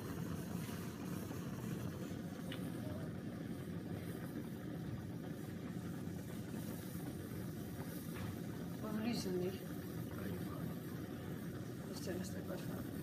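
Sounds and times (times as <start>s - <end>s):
burner flame hissing: 0.0s - 13.0s
steam jetting from a tube: 0.0s - 13.0s
water boiling in a flask: 0.0s - 13.0s.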